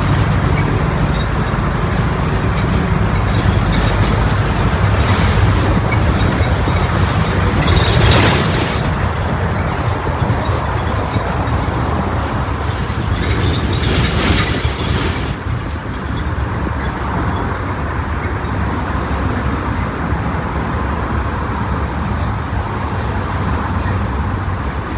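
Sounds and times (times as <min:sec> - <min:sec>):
bus diesel engine droning: 0:00.0 - 0:24.9.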